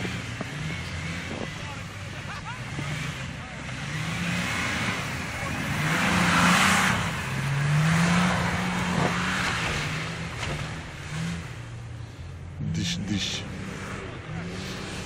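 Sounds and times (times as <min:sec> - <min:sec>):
suv engine revving: 0:00.0 - 0:15.0.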